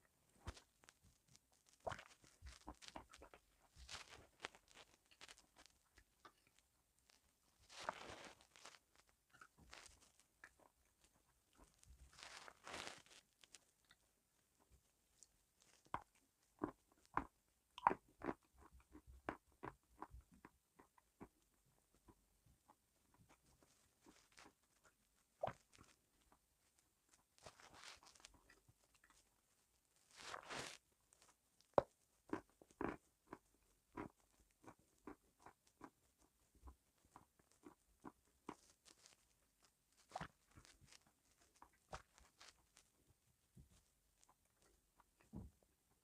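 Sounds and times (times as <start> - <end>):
chewing crunchy food: 1.6 - 14.0, 15.6 - 26.3, 27.1 - 29.5, 30.1 - 39.4, 40.0 - 42.9.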